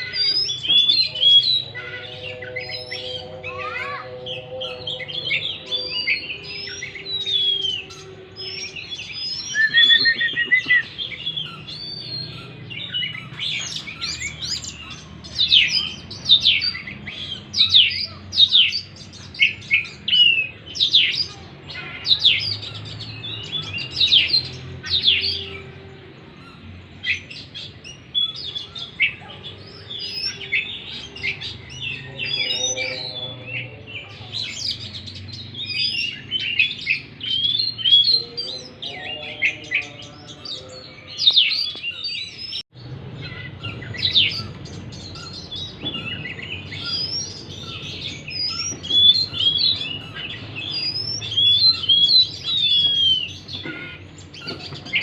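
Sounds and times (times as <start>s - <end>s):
bird singing whistles and chirps: 0.0s - 21.4s, 29.8s - 55.0s.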